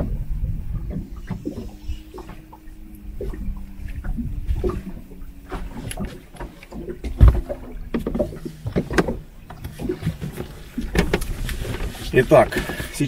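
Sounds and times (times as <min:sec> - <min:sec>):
handling knocks and rubbing: 0:00.0 - 0:13.0.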